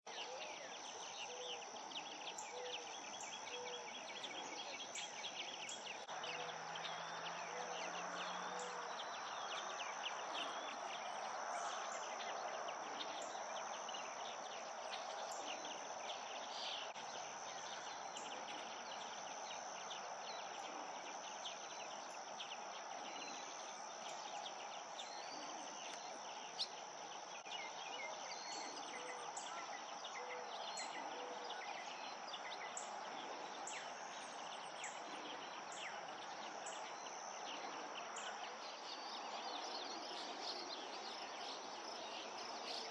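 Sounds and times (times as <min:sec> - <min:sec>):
insect chirps: 0:00.1 - 0:42.9
insect chorus drone: 0:00.1 - 0:42.9.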